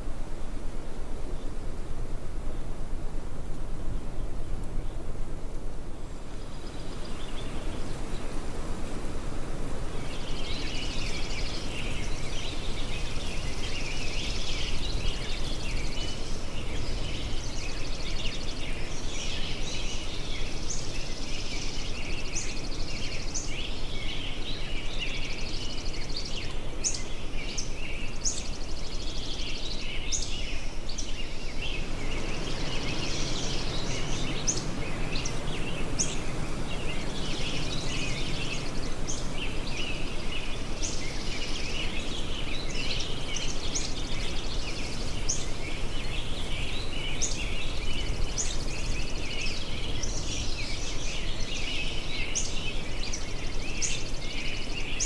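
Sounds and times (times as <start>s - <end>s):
birds chirping and singing: 10.0s - 55.0s.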